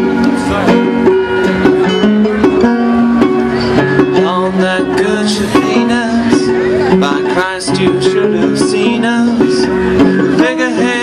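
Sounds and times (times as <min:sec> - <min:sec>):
plucked guitar-like sea shanty tune: 0:00.0 - 0:11.0.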